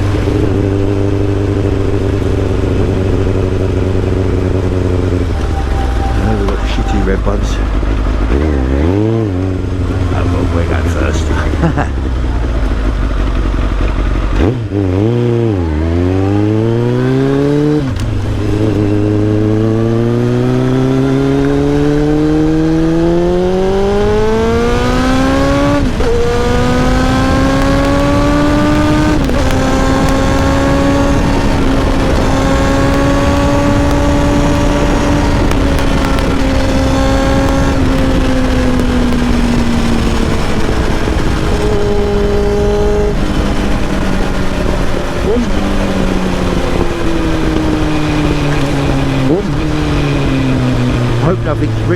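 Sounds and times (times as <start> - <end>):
motorcycle engine revving through gears: 0.0 - 51.9.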